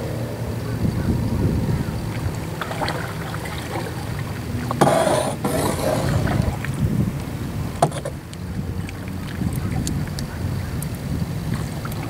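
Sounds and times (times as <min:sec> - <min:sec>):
wind rumble on microphone: 0:00.0 - 0:12.0
paddle strokes splashing water: 0:01.0 - 0:12.0.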